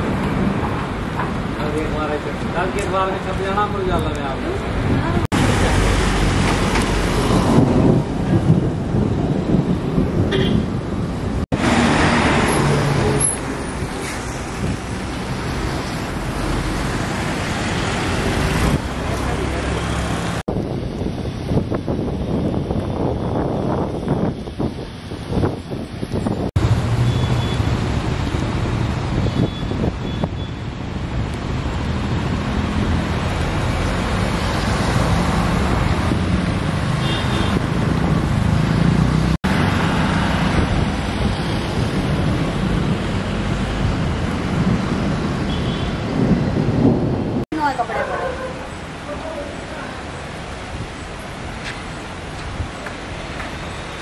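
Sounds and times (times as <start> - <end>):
vehicles driving past: 0.0 - 20.5, 25.0 - 54.0
road traffic on wet street: 0.0 - 54.0.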